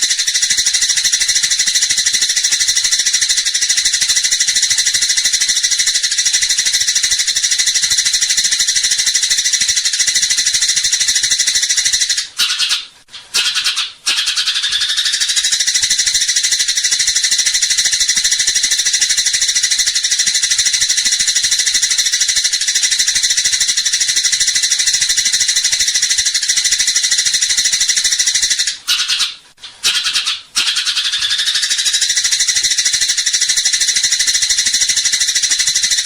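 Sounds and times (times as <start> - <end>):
sparrow chattering: 0.0 - 36.0.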